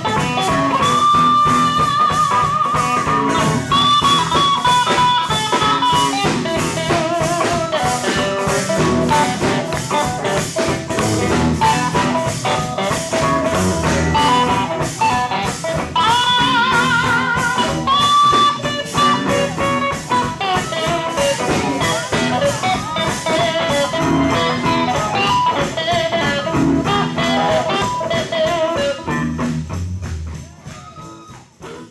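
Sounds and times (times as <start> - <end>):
steel guitar sliding lead lines: 0.0 - 30.1
fast drum kit beat: 0.0 - 31.9.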